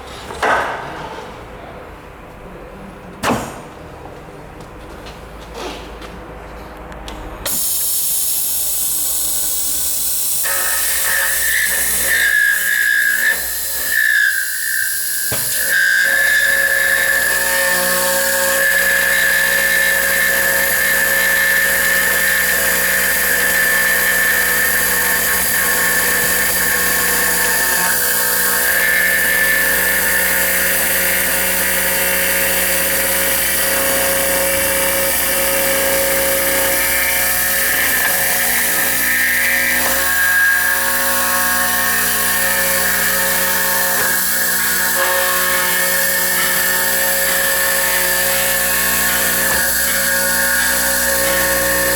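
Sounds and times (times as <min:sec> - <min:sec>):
router spindle whining: 0:07.5 - 0:51.9.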